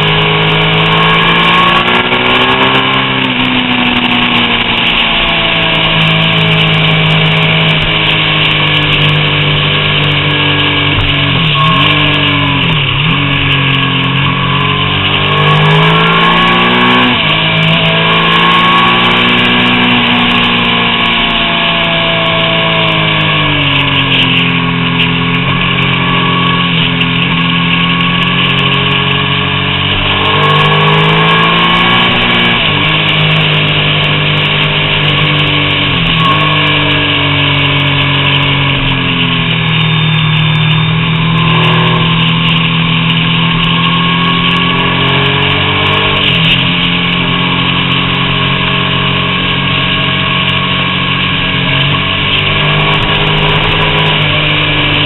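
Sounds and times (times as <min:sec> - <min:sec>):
motorcycle engine at road speed: 0:00.0 - 0:55.0
wind and road noise: 0:00.0 - 0:55.0.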